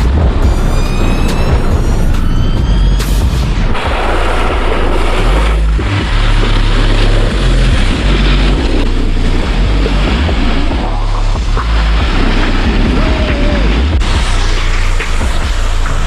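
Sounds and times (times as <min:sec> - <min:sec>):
background music with bass line: 0:00.0 - 0:16.0
wind buffeting microphone: 0:00.0 - 0:16.0.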